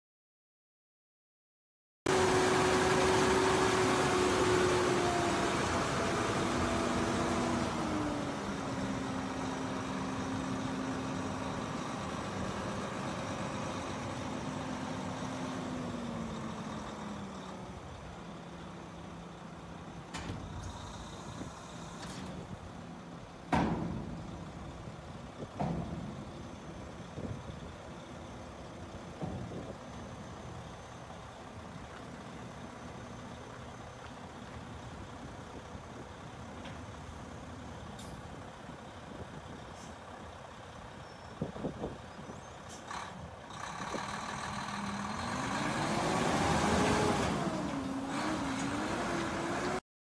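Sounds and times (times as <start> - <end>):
dump truck diesel engine and hoist: 2.1 - 49.8.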